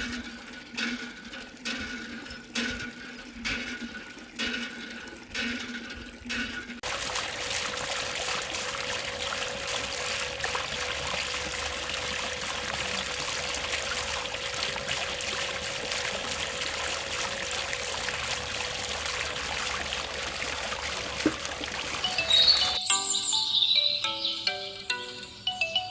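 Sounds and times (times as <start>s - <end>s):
water running and trickling: 0.0s - 22.8s.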